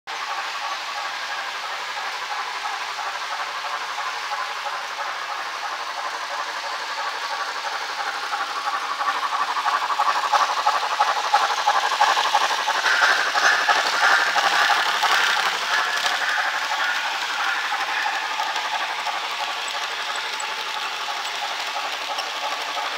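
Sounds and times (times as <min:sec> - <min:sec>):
model train rattling on rails: 0:00.1 - 0:22.9.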